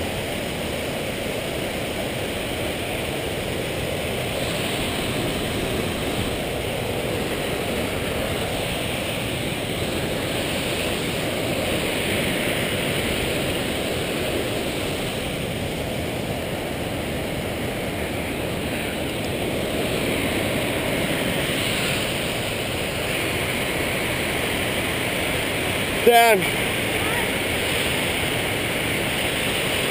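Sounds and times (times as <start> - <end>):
creek rushing over rocks: 0.0 - 29.9.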